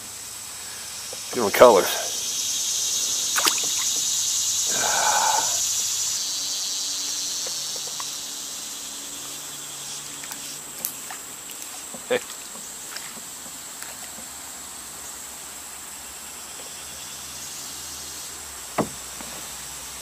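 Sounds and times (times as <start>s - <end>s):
cicadas droning: 0.0s - 20.0s.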